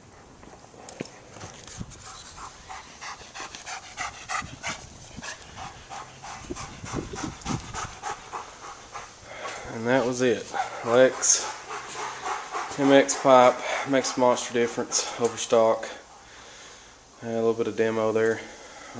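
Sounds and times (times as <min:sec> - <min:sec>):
dog panting: 0:00.0 - 0:17.3.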